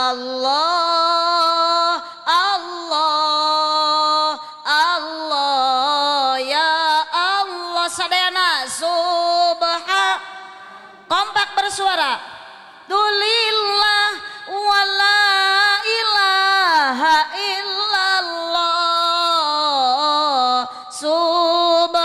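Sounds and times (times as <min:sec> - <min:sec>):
woman chanting: 0:00.0 - 0:22.0.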